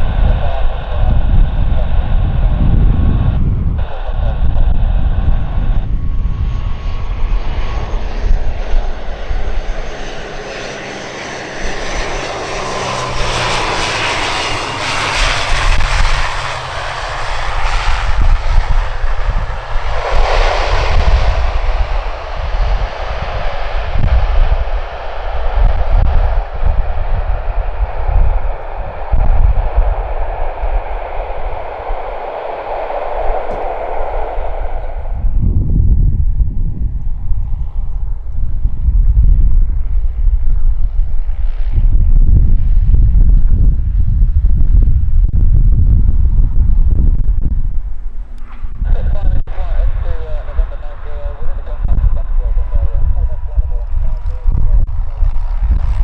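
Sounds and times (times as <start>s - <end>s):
turboprop airplane engines roaring: 0.0s - 56.0s.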